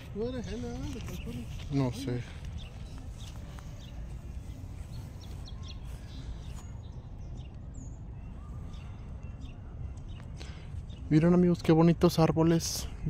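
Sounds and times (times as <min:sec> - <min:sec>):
faint bird chirps: 0:00.0 - 0:11.4
steady low rumble: 0:00.0 - 0:13.0.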